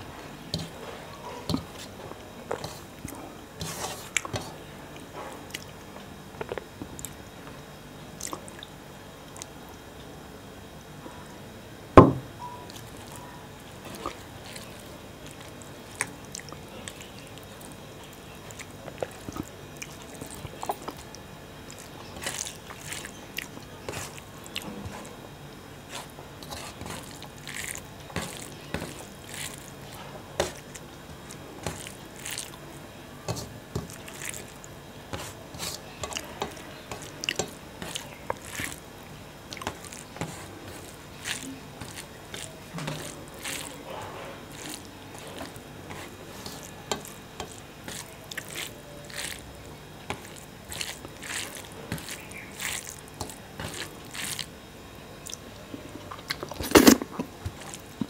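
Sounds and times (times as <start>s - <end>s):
hand mixing food on steel plate: 0.0s - 5.7s, 12.5s - 54.6s, 55.2s - 58.0s.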